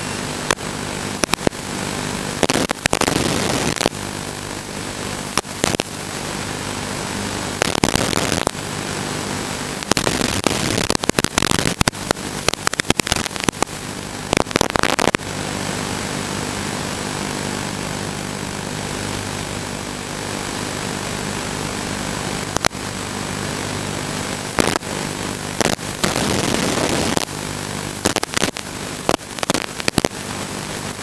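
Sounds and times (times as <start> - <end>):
crackling static bursts: 0.0 - 31.0
steady hiss and buzz: 0.0 - 31.0.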